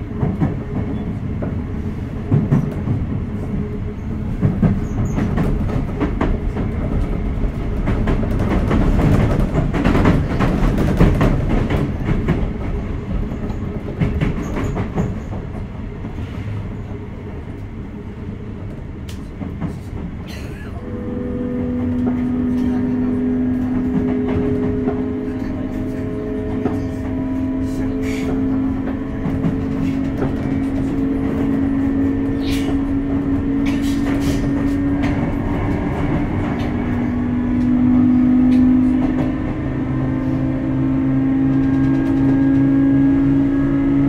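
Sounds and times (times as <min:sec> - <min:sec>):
electric train rumbling: 0:00.0 - 0:44.0.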